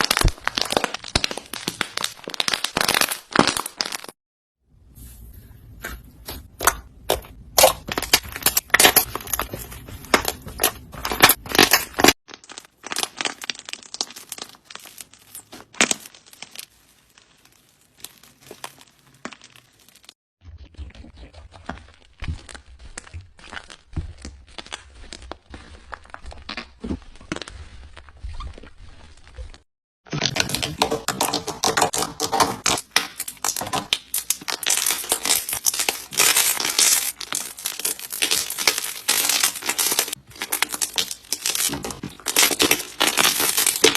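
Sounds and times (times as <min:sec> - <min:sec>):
slime crackling and popping: 0:00.0 - 0:04.2, 0:06.6 - 0:20.2, 0:21.9 - 0:27.7, 0:29.0 - 0:43.9.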